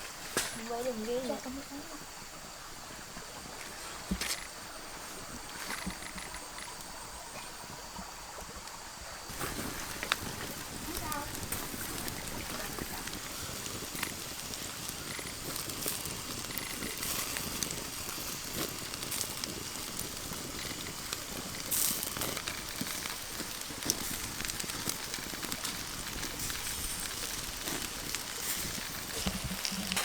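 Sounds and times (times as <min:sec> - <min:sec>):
fire popping: 0:00.0 - 0:30.0
wood fire hissing and crackling: 0:00.0 - 0:30.0.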